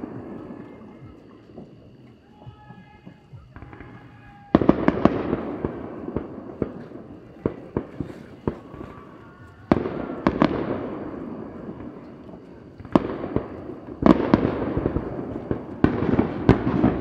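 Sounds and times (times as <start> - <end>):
firework shells bursting: 0.0 - 17.0
firework cracks and pops: 1.4 - 17.0.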